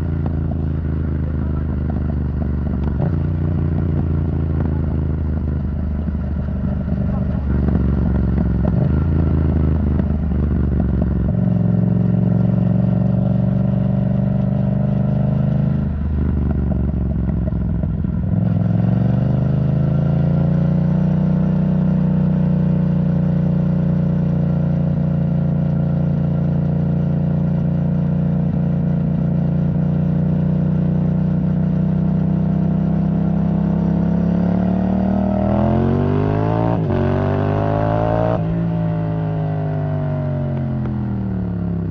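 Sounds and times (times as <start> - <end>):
motorcycle engine: 0.0 - 41.9.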